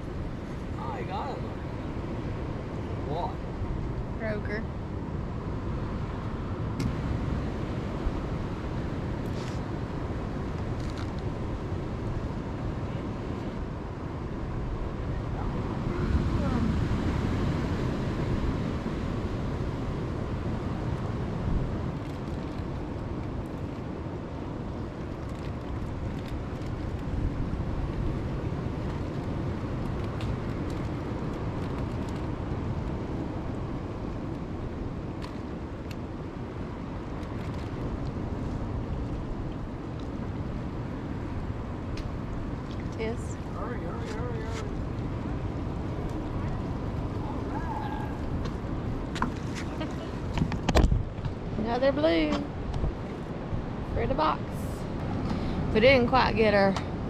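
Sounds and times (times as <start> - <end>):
ocean surf: 0.0 - 57.0
wind on microphone: 0.0 - 57.0.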